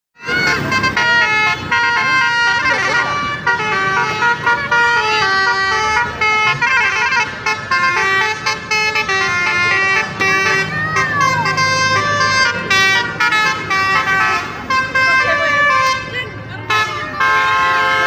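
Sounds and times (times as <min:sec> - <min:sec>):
bus horn playing a tune: 0:00.2 - 0:18.0.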